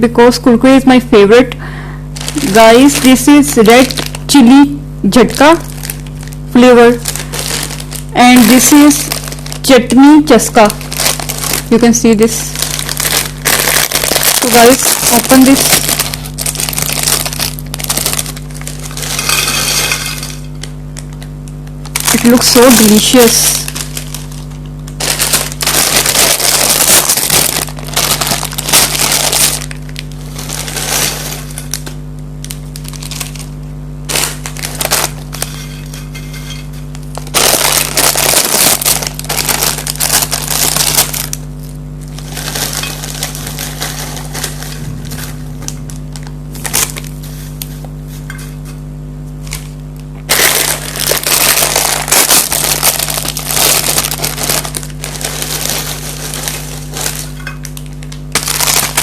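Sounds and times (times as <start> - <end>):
low electrical hum: 0.0 - 59.0
crunching snack puffs and foil packets: 1.6 - 4.4, 5.1 - 48.2, 49.4 - 59.0.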